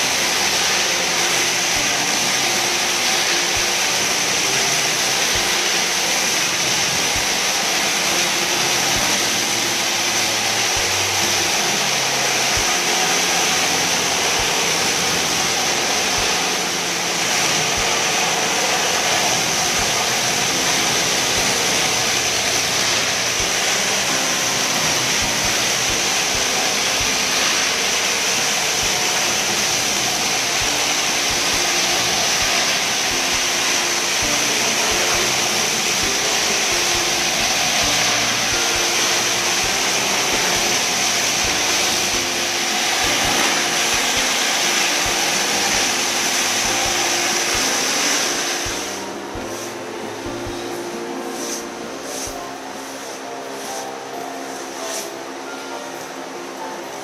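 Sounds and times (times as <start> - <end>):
cleaning machine hiss and whine: 0.0 - 57.0.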